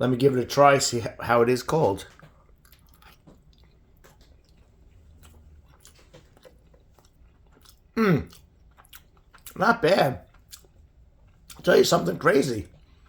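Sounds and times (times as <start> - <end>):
soft chewing: 1.9 - 13.0.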